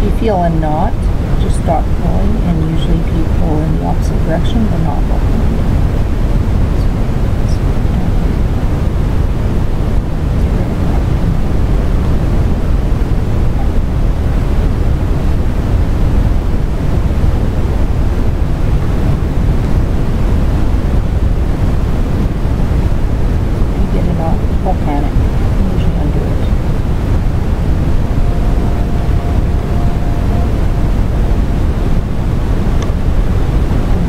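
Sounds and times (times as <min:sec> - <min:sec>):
steady low rushing noise: 0:00.0 - 0:34.0.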